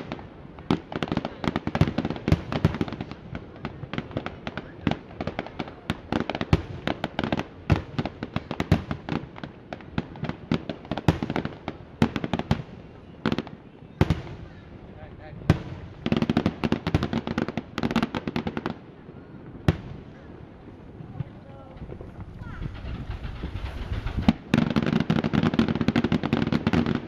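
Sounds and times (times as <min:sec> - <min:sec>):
fireworks bangs and cracks: 0:00.0 - 0:27.0.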